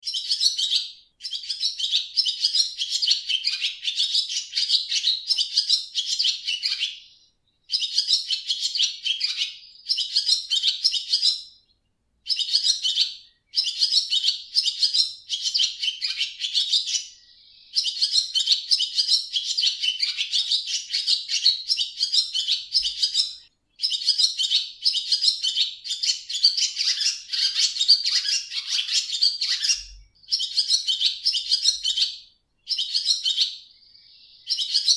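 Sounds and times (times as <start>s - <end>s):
swallow twittering: 0.0s - 34.9s.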